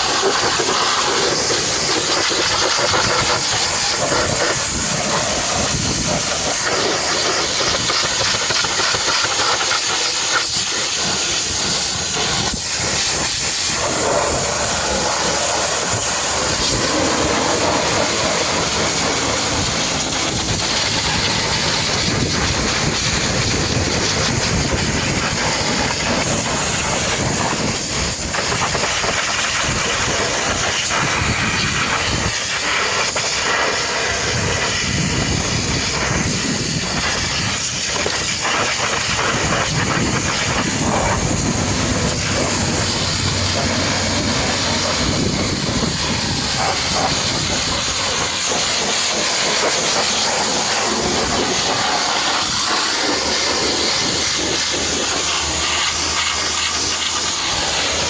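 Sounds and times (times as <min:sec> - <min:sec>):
pressure washer spraying water: 0:00.0 - 0:58.0.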